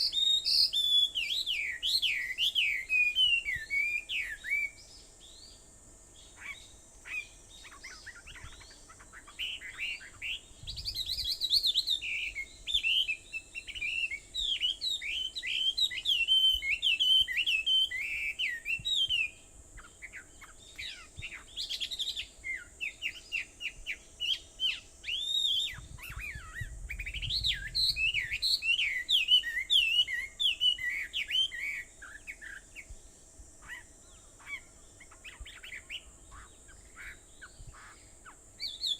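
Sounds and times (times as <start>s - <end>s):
songbird warbling: 0.0s - 5.6s, 6.2s - 33.0s, 33.6s - 38.9s.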